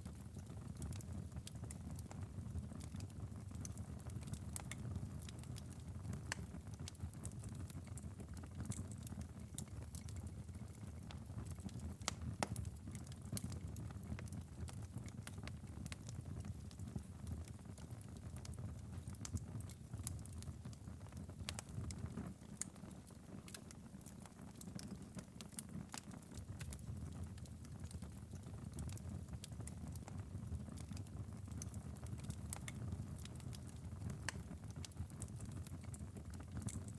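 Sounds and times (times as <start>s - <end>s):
low rumble of flames: 0.1s - 36.9s
wood fire pops and snaps: 0.3s - 36.9s.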